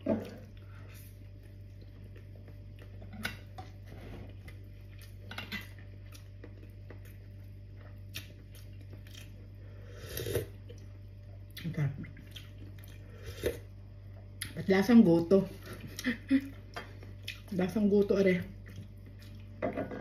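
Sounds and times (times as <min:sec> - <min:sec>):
steady low hum: 0:00.0 - 0:20.0
soft chewing: 0:00.2 - 0:14.6, 0:15.5 - 0:19.6.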